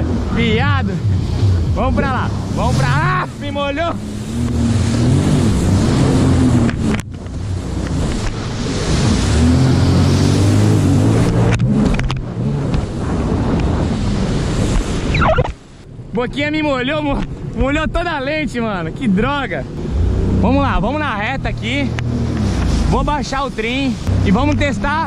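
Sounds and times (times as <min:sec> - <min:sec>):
watercraft engine under throttle: 0:00.0 - 0:15.8, 0:18.8 - 0:25.0
water rushing and spraying: 0:00.0 - 0:16.0, 0:16.6 - 0:25.0
wind buffeting microphone: 0:00.0 - 0:25.0.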